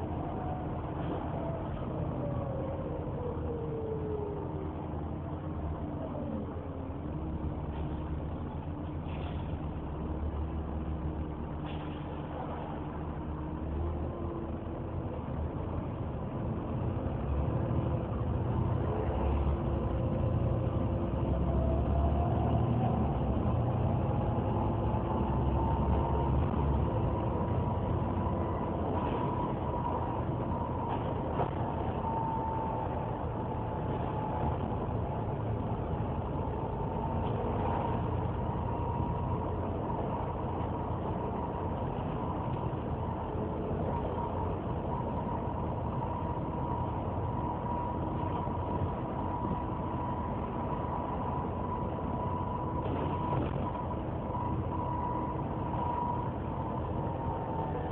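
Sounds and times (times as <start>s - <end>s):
bus engine rumbling: 0.0s - 57.9s
engine cooling fan whine: 0.0s - 57.9s.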